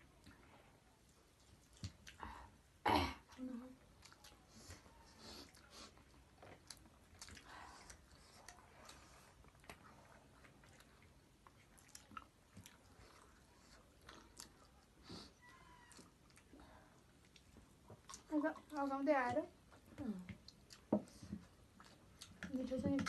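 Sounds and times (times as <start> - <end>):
chewing food: 0.0 - 2.6, 3.2 - 23.0.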